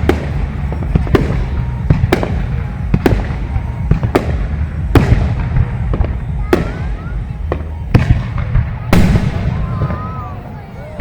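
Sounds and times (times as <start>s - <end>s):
continuous low rumble: 0.0s - 11.0s.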